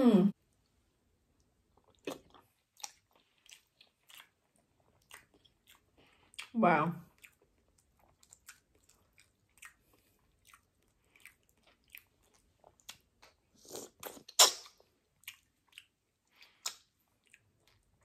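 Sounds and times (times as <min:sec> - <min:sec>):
chewing with wet mouth smacks: 0:01.4 - 0:18.0.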